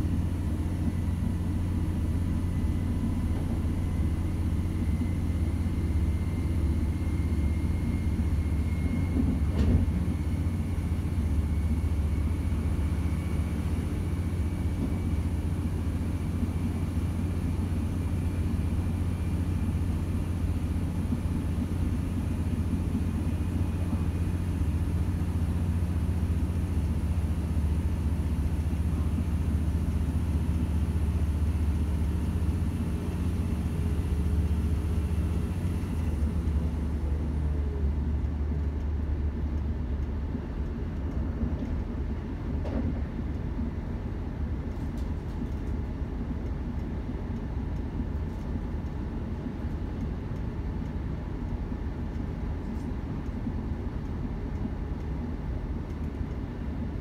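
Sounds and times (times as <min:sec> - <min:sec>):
train diesel engine drone: 0:00.0 - 0:57.0.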